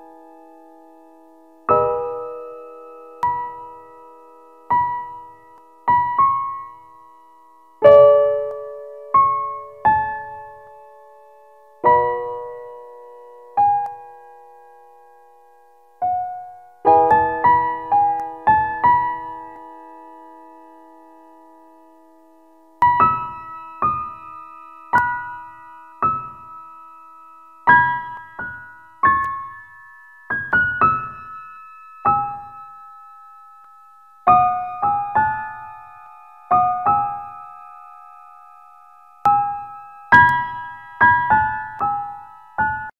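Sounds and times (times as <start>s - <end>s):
slow keyboard melody: 0.0s - 42.9s.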